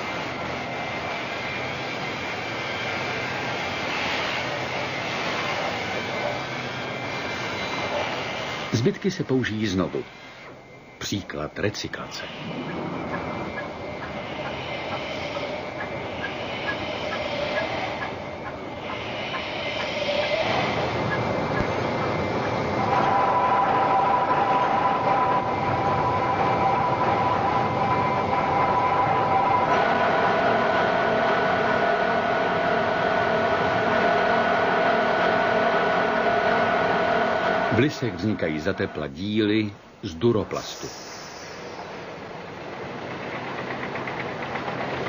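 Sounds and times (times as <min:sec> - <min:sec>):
factory machinery humming: 0:00.0 - 0:45.0.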